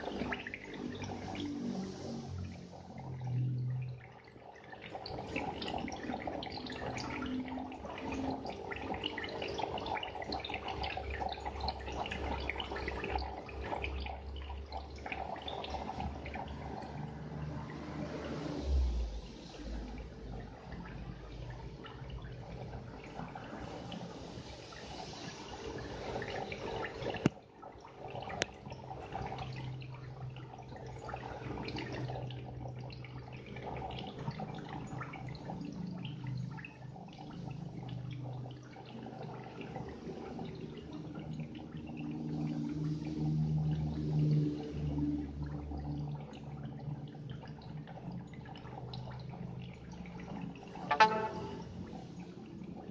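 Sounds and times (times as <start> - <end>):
aquarium water trickling and bubbling: 0.0 - 52.9
low steady hum: 0.0 - 52.9.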